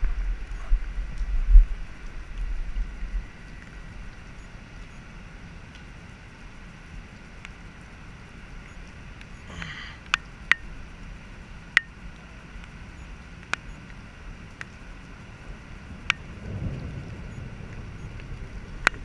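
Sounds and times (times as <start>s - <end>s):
light rain on water: 0.0s - 19.0s.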